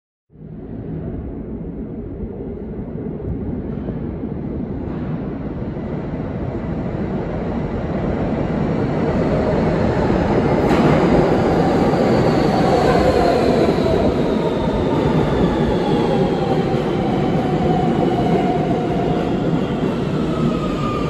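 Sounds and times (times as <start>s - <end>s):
subway train rumble: 0.3s - 21.0s.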